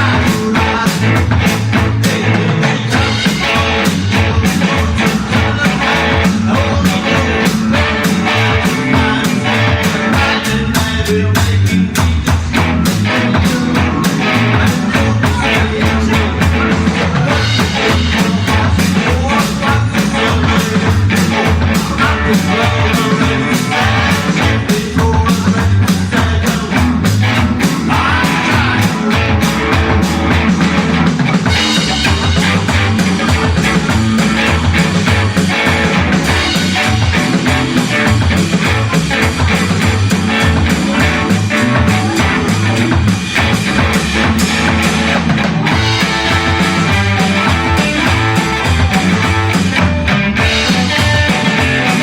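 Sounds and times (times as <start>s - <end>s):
person singing: 0.0s - 49.8s
guitar: 0.0s - 52.0s
rock and roll band playing: 0.0s - 52.0s
steady drum beat: 0.0s - 52.0s
walking bass line: 0.0s - 52.0s.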